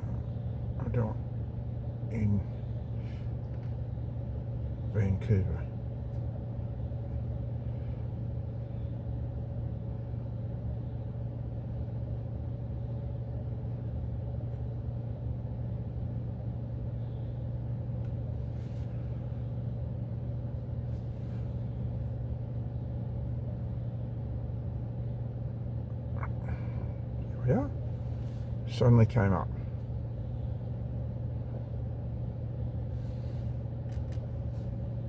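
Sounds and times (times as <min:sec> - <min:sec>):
car engine humming inside cabin: 0:00.0 - 0:35.0.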